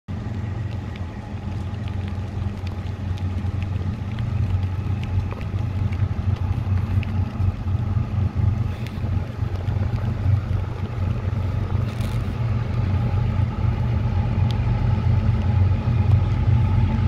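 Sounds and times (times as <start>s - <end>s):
diesel locomotives rumbling: 0.1s - 17.0s
raindrops ticking: 0.1s - 17.0s.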